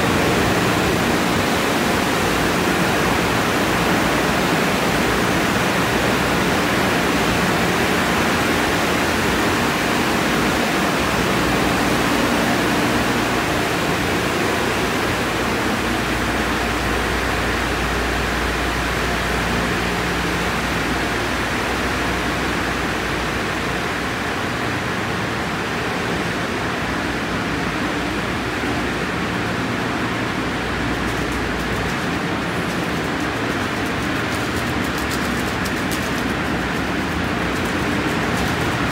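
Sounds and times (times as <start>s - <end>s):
car wash equipment running: 0.0s - 38.9s.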